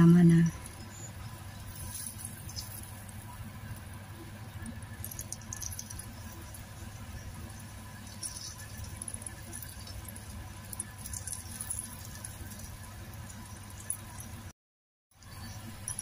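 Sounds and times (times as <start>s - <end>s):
margarine sizzling in frying pan: 0.0s - 14.5s
fine crackles and pops: 0.2s - 14.5s.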